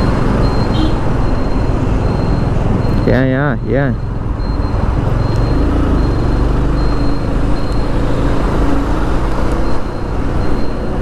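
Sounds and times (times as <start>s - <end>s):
drone of lorries: 0.0s - 11.0s.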